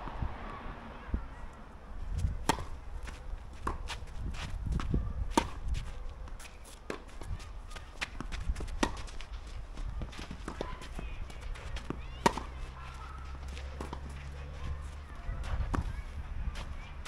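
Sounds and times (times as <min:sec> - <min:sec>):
footsteps on court: 0:02.1 - 0:17.0
racquets striking tennis ball: 0:02.2 - 0:16.0.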